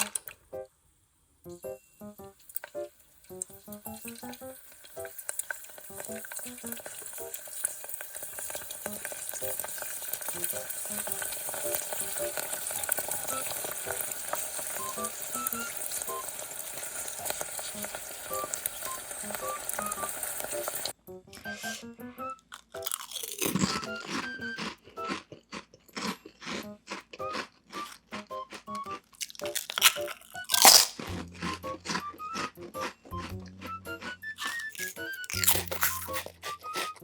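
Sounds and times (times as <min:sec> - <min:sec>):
chips sizzling in hot oil: 0:01.5 - 0:21.8, 0:22.6 - 0:25.2, 0:26.0 - 0:37.0.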